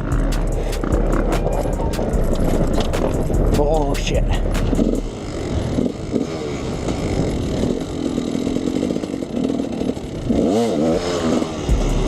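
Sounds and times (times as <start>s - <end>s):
two-stroke dirt bike engine: 0.0s - 12.0s.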